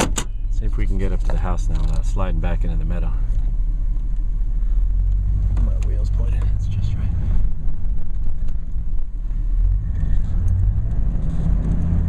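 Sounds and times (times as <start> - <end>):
truck engine low rumble: 0.0 - 12.0.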